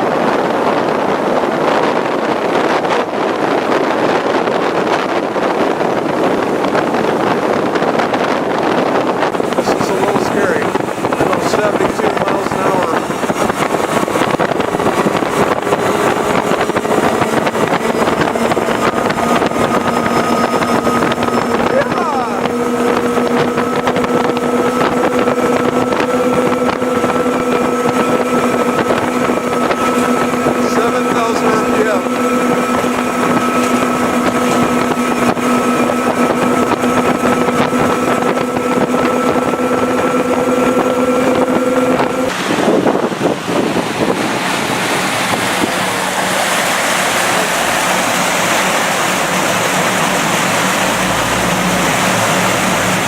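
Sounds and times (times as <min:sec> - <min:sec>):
rush of air and water: 0:00.0 - 0:53.0
wind buffeting microphone: 0:00.0 - 0:53.0
faint engine tones: 0:08.2 - 0:53.0.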